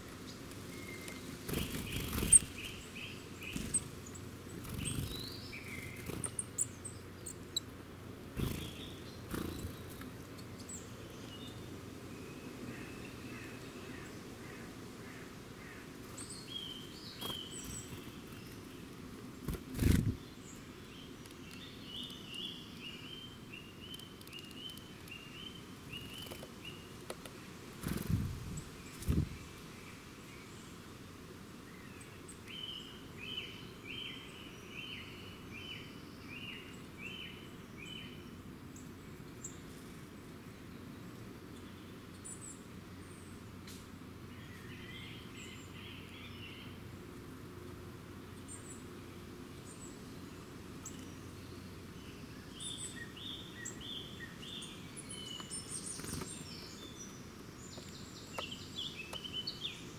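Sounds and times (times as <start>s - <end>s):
birds singing and calling: 0.2s - 30.8s, 31.7s - 47.0s, 48.2s - 59.9s.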